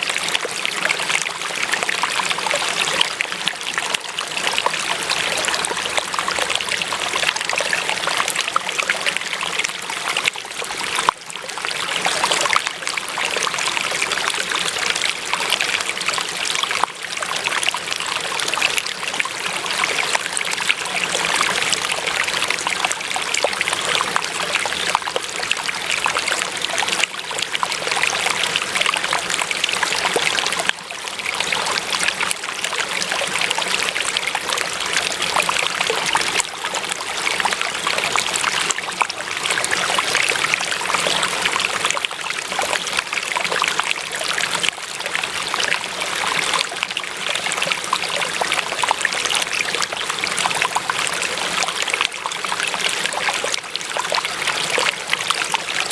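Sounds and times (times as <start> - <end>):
stream trickling over stones: 0.0 - 55.9.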